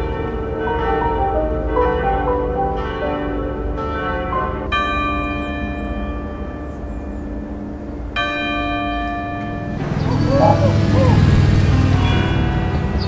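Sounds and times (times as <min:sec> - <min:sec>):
small church bells ringing: 0:00.0 - 0:13.0.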